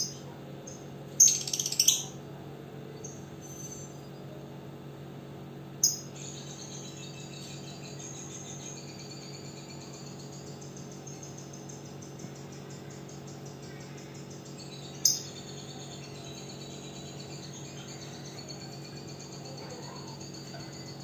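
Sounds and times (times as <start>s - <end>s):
lovebird chattering trill: 0.0s - 2.2s, 5.8s - 21.0s
steady low hum: 0.0s - 21.0s.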